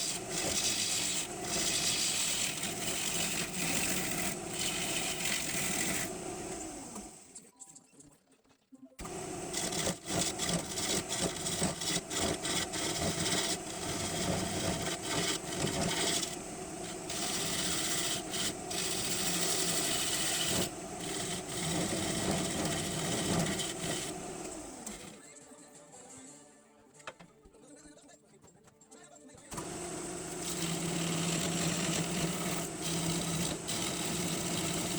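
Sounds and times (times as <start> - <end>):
gouge scraping wood on lathe: 0.0 - 7.3, 9.0 - 25.2, 29.6 - 34.9.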